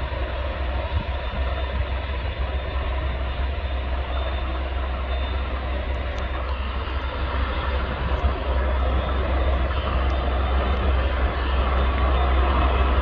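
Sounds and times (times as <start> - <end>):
faint high whine: 0.0 - 13.0
helicopter rumble and hiss: 0.0 - 13.0.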